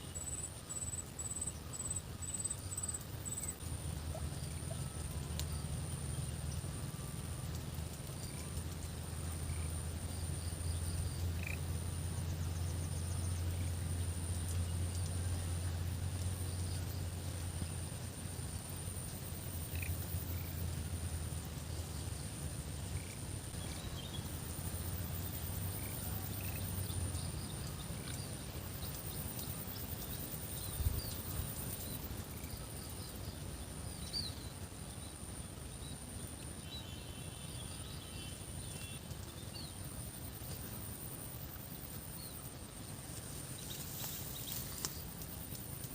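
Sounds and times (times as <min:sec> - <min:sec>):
low engine-like hum: 0:00.0 - 0:45.9.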